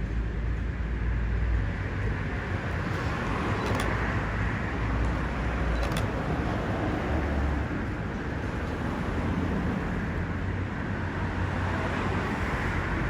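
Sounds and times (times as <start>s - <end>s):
cars going by: 1.5s - 13.0s.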